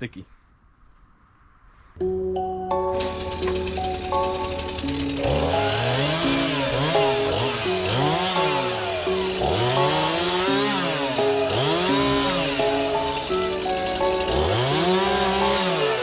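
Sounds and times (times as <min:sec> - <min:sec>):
background music: 0:02.0 - 0:16.0
chainsaw engine revving: 0:02.9 - 0:16.0.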